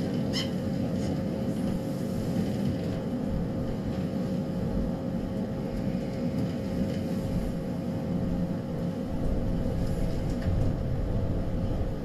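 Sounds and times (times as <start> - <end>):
railcar engine and wheels rumbling: 0.0 - 12.0.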